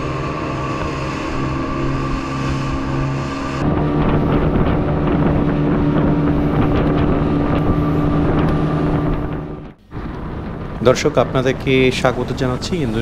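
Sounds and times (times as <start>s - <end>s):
speedboat engine running: 0.0s - 13.0s
water rushing and splashing: 0.0s - 13.0s
wind buffeting microphone: 0.0s - 13.0s.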